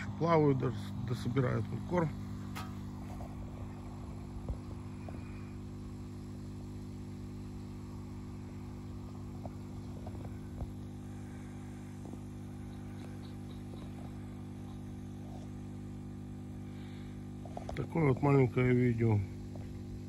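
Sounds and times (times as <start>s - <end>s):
aeration pump humming: 0.0s - 20.0s.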